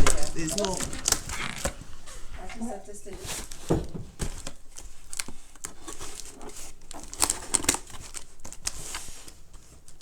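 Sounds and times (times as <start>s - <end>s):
clicks and crinkly rustling: 0.0s - 10.0s.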